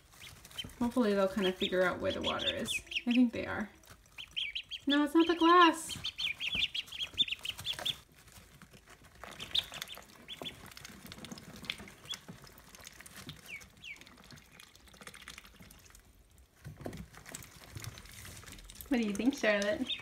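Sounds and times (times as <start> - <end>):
rustling of wood shavings: 0.0 - 14.9, 15.6 - 20.0
ducklings peeping: 0.0 - 16.0, 17.0 - 20.0.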